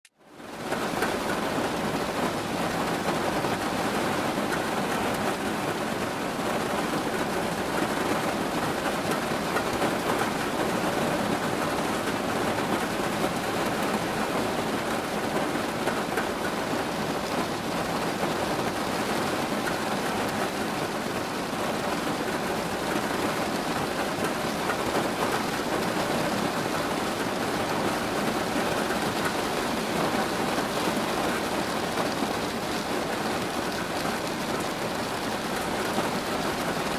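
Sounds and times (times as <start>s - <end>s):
steady rain patter: 0.1s - 36.9s.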